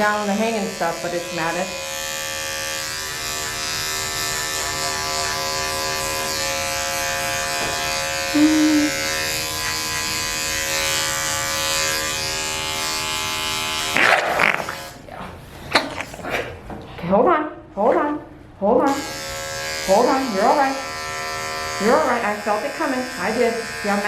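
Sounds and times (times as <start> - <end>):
electric clippers humming: 0.0 - 15.0, 18.9 - 24.0.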